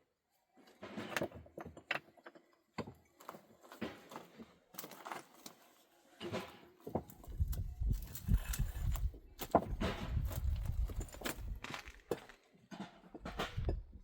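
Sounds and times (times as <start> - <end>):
objects knocking and scraping: 0.6 - 14.0.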